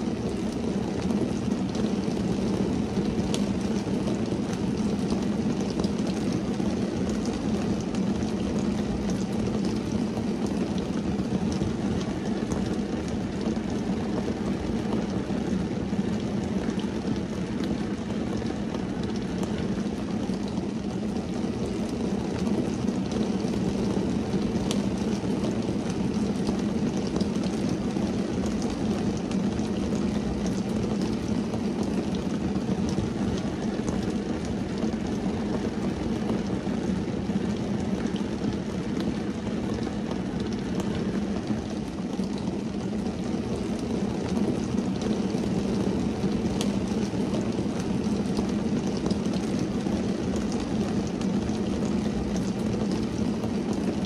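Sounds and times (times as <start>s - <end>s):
rain drumming on car roof: 0.0s - 54.0s.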